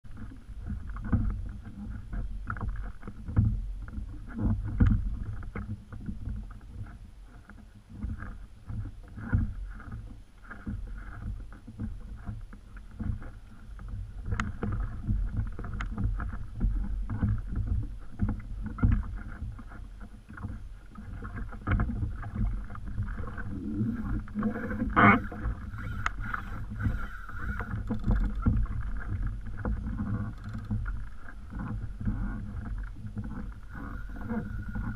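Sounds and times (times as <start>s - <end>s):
waves lapping against kayak hull: 0.0s - 34.9s
low uneven rumble: 0.1s - 34.9s.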